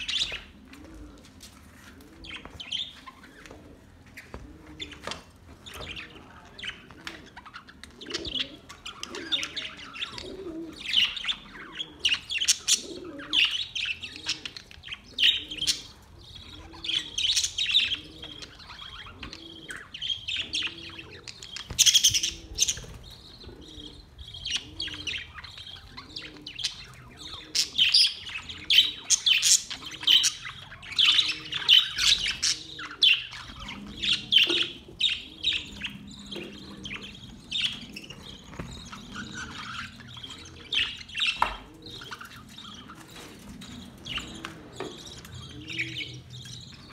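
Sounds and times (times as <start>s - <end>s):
budgerigars chattering: 5.7s - 46.9s.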